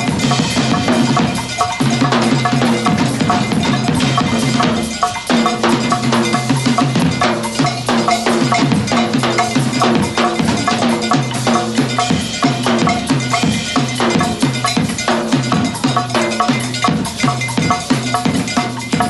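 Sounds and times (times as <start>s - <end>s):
cowbell struck rhythmically: 0.0s - 19.0s
drums: 0.0s - 19.0s
jazz big band playing: 0.0s - 19.0s.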